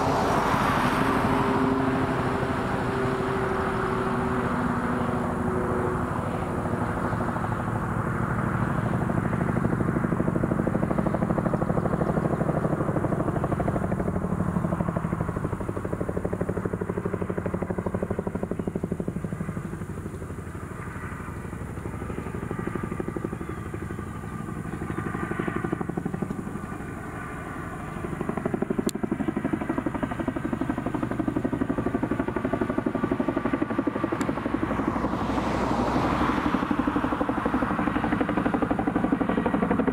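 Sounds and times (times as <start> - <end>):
helicopter rotors beating: 0.0 - 39.9.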